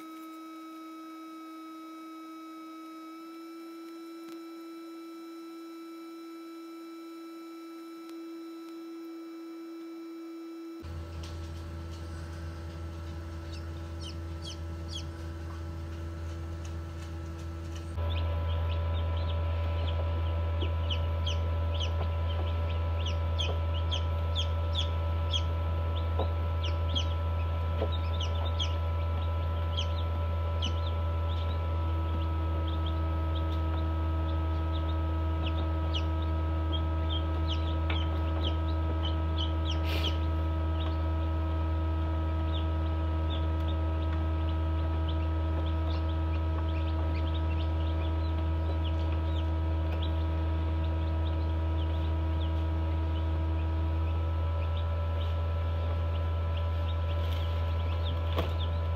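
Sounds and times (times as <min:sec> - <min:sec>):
incubator hum: 0:00.0 - 0:58.9
chicks peeping: 0:10.8 - 0:58.9.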